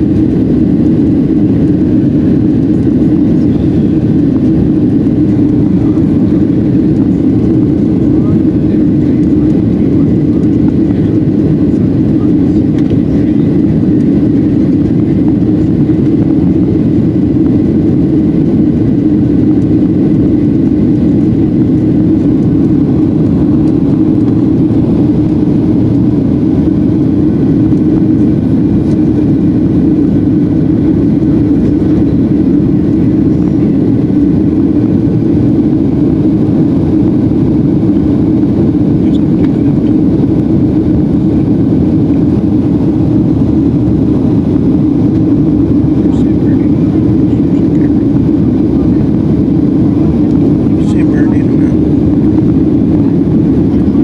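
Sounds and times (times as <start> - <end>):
airplane cabin engine rumble: 0.0 - 54.0
faint high engine whine: 0.0 - 54.0.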